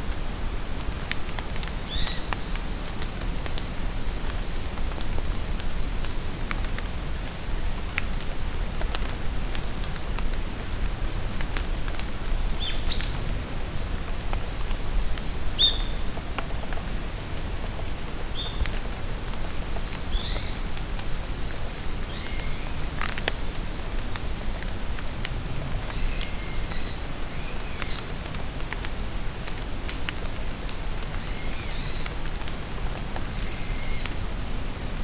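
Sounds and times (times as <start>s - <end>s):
rain falling in forest: 0.0s - 35.0s.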